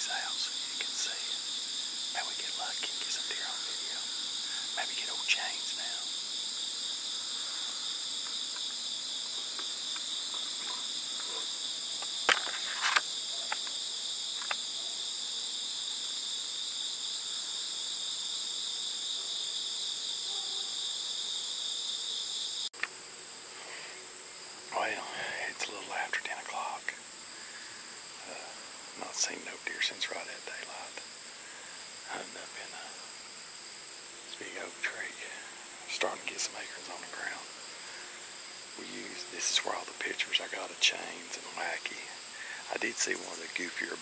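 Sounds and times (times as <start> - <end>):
crickets and insects trilling: 0.0 - 44.0.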